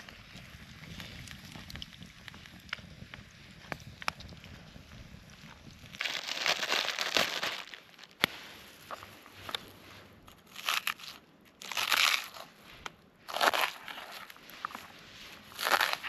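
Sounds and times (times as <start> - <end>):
crunching crinkling rustle: 0.0 - 16.0.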